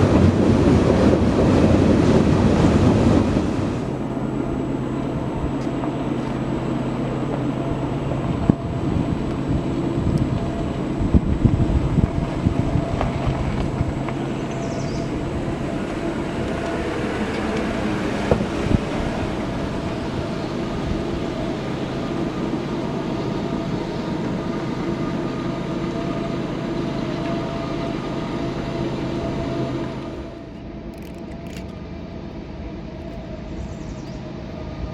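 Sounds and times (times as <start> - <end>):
locomotive engine drone: 0.0 - 34.9
train clanks: 0.0 - 34.9.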